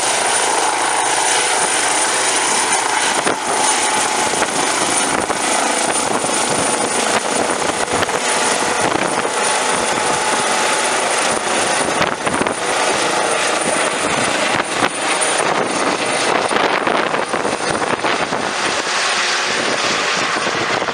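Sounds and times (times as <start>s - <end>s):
helicopter turbine and rotor: 0.0s - 20.9s.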